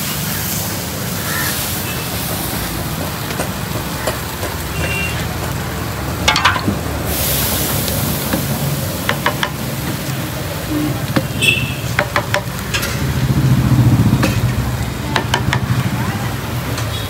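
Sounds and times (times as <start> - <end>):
water sizzling on hot griddle: 0.0 - 17.0.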